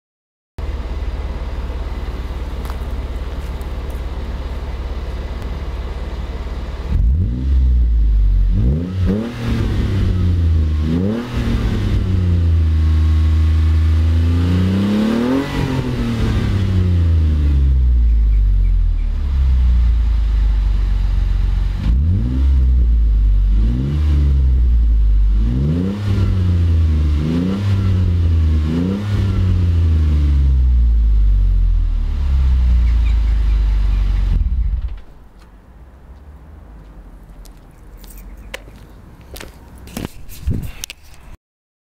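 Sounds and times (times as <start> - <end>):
car engine idling and revving: 0.6 - 41.2.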